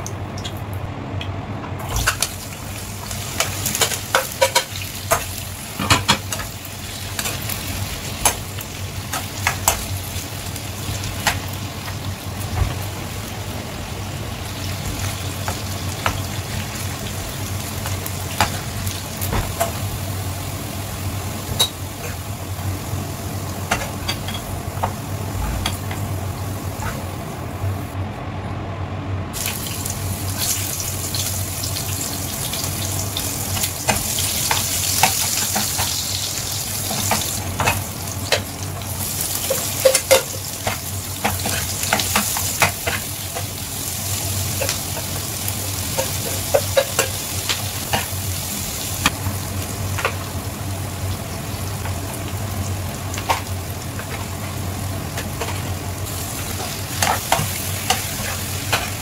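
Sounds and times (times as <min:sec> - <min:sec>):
vegetables sizzling in oil: 0:01.8 - 0:28.0, 0:29.4 - 0:59.0.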